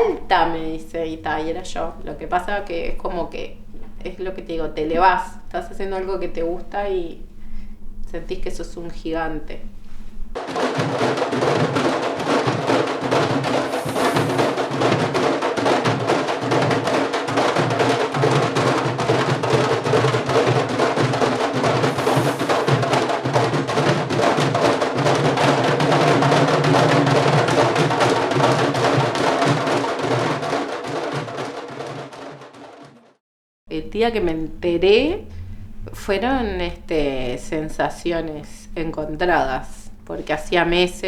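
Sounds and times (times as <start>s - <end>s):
group of drums played fast: 0.0s - 32.6s, 33.8s - 41.0s.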